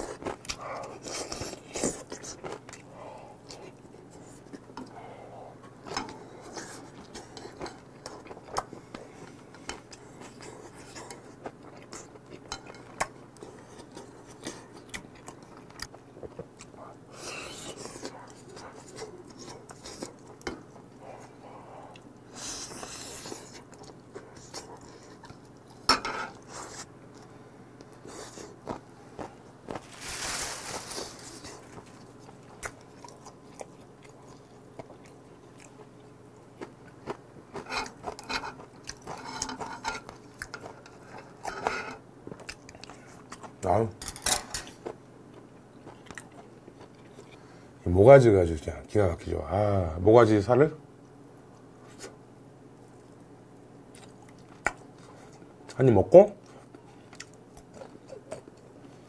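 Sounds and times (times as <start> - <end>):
chewing: 0.0 - 29.9, 31.0 - 43.7, 44.6 - 47.5, 53.9 - 55.8, 56.4 - 59.0.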